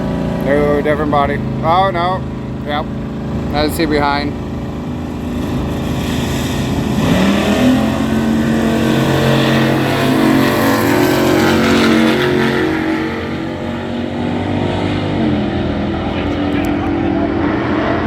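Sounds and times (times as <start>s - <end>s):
engines accelerating hard: 0.0s - 18.0s.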